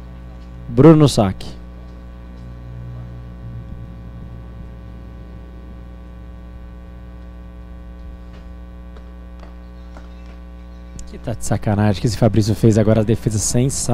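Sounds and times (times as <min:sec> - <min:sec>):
electrical mains hum: 0:00.0 - 0:13.9.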